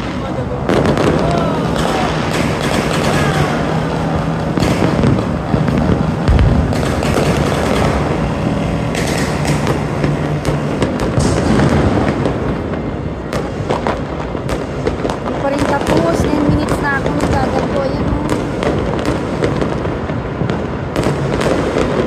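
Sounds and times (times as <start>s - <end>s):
fireworks crackling and popping: 0.0s - 22.0s
heavy firework boom: 0.0s - 22.0s.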